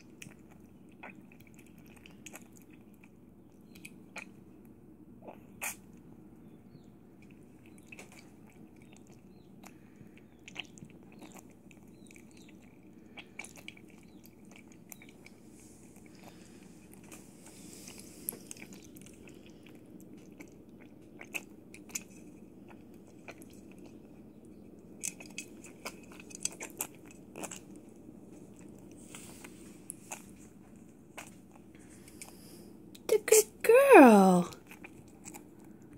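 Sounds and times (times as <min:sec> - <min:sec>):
piglet lapping milk: 0:00.0 - 0:33.1, 0:34.4 - 0:35.9
low steady hum: 0:00.0 - 0:35.9.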